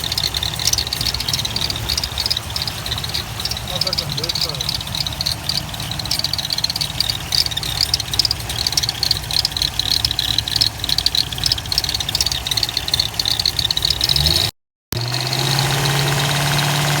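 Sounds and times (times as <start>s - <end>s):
car engine rumbling: 0.0s - 17.0s
rapid sharp engine ticking: 0.0s - 17.0s.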